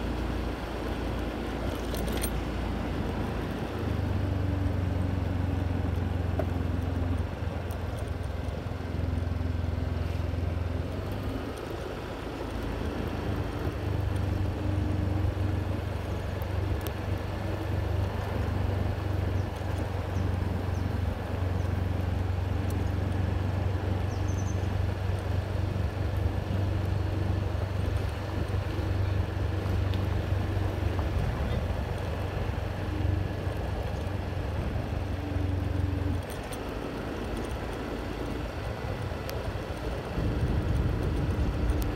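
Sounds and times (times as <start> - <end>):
motor vehicle engine drone: 0.0 - 41.9
road noise: 0.0 - 41.9.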